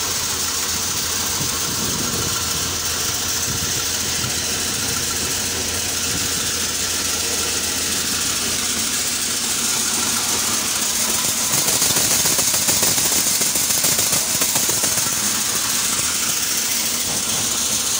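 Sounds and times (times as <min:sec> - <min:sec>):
thresher whirring: 0:00.0 - 0:17.9
tractor engine hum: 0:00.0 - 0:17.9.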